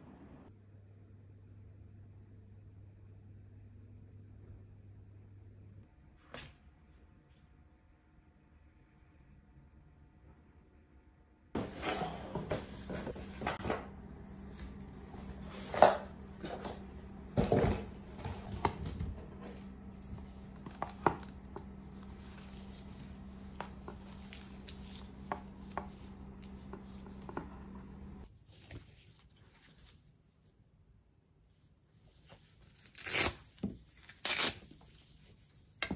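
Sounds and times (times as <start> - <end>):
steady low hum: 0.0 - 32.7.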